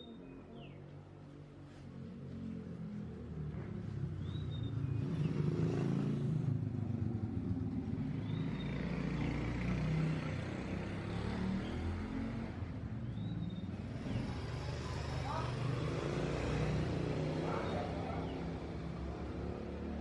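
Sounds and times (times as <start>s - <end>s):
motor vehicles rumbling: 0.0s - 20.0s.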